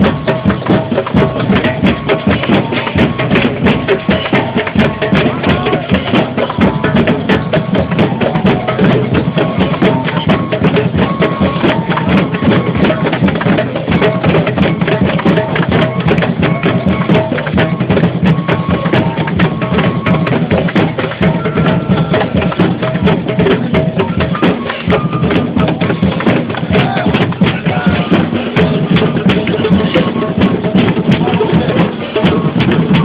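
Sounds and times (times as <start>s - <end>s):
crowd drumming on hand drums: 0.0s - 33.0s.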